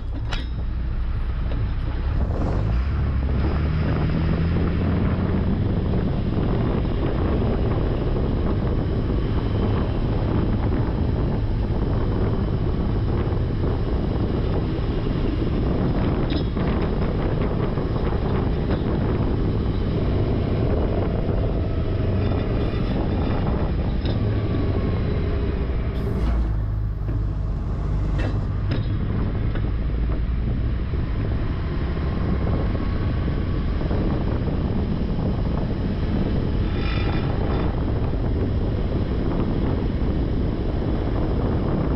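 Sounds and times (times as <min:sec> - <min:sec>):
truck diesel engine rumbling: 0:00.0 - 0:41.9.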